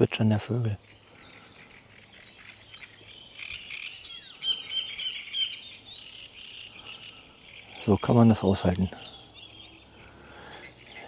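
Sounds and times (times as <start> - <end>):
songbirds twittering: 0.0 - 11.0.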